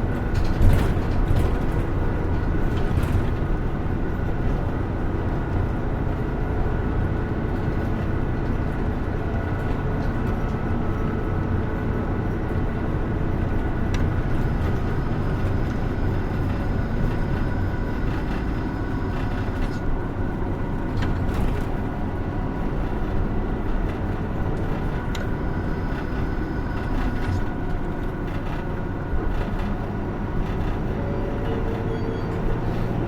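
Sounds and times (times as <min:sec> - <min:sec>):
bus engine and road drone: 0:00.0 - 0:33.0.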